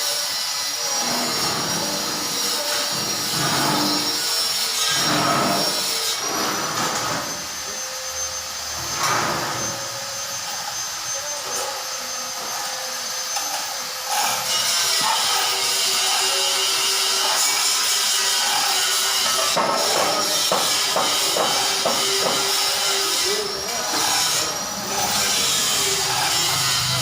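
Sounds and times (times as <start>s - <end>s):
machinery whining: 0.1s - 27.0s.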